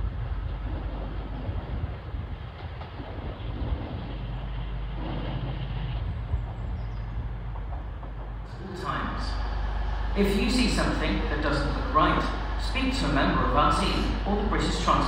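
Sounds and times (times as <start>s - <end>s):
train engine and wheel rumble: 0.0s - 15.0s.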